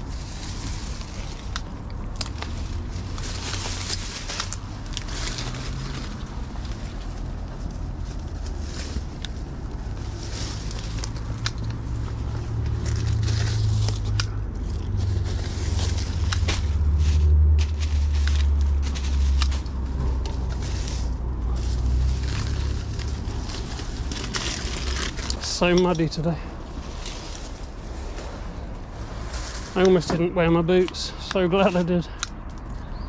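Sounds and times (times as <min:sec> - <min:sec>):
grabber clicking in dry leaves: 0:00.0 - 0:28.4, 0:29.2 - 0:32.9
steady low rumble: 0:00.0 - 0:33.0.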